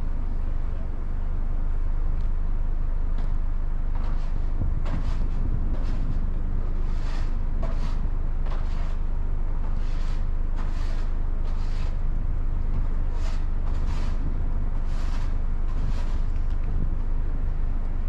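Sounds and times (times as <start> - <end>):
car rumbling on the move: 0.0 - 18.0.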